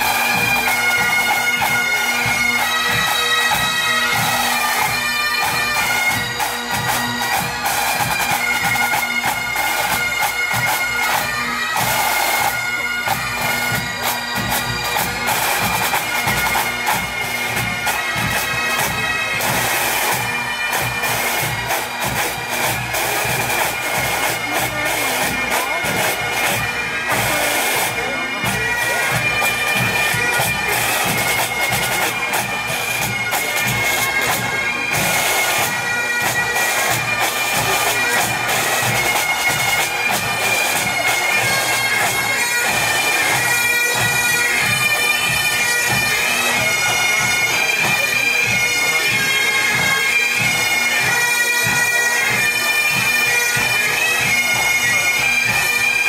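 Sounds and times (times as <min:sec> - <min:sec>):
drums beating time: 0:00.0 - 0:55.9
bagpipes with drone: 0:00.0 - 0:56.0.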